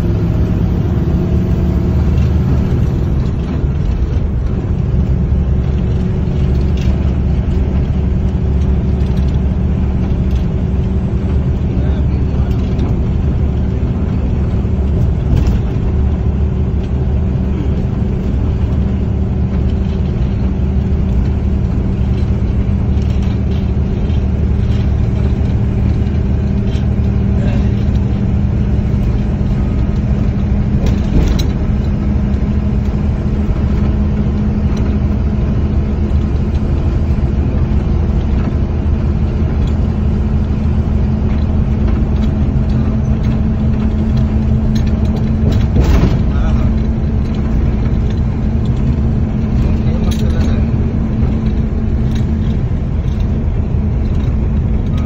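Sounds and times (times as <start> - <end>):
vehicle cabin engine drone: 0.0 - 55.0.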